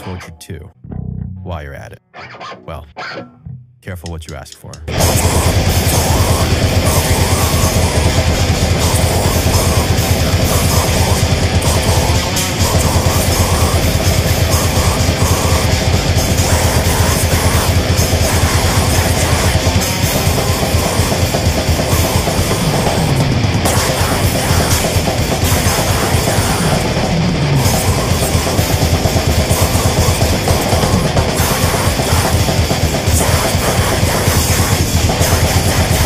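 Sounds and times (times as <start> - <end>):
bass guitar: 0.0 - 36.0
distorted guitars: 0.0 - 36.0
fast drumming: 3.9 - 36.0.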